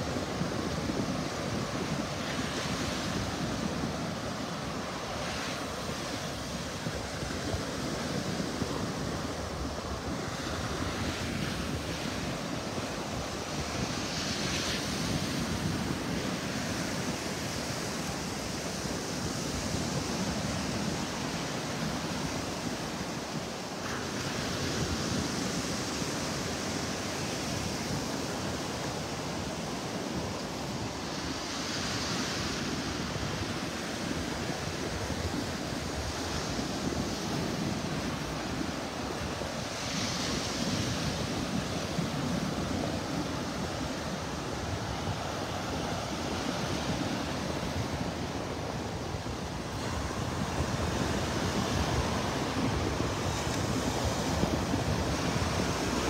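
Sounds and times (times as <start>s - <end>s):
surf washing up a beach: 0.0s - 56.0s.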